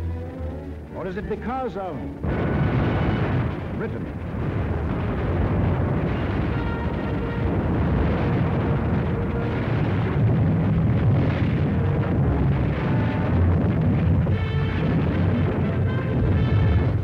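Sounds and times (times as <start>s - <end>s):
low rumble of bombing and fire: 0.0s - 17.0s.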